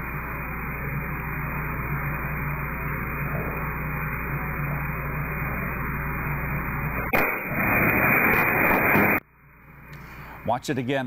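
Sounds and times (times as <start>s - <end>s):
low hum: 0.0s - 10.8s
steady hiss: 0.0s - 11.0s.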